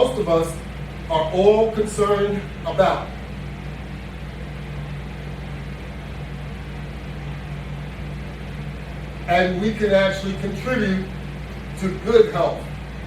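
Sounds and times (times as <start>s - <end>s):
low machine hum with hiss: 0.0s - 13.0s.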